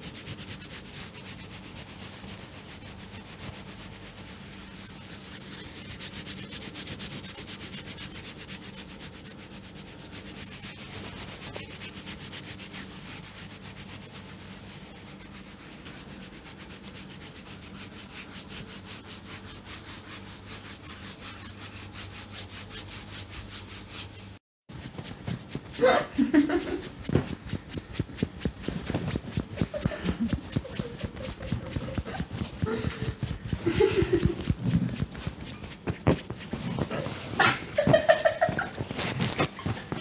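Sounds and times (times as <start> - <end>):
hands rubbing body: 0.1 - 40.0.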